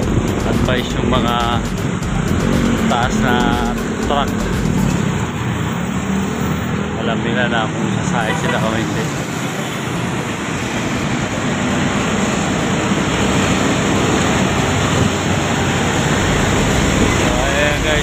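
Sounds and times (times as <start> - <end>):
motorcycles passing: 0.0 - 18.0
road traffic passing: 0.0 - 18.0
truck passing: 0.0 - 18.0.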